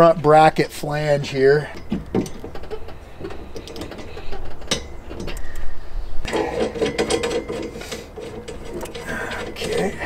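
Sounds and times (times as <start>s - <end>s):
light metal handling: 1.3s - 10.0s.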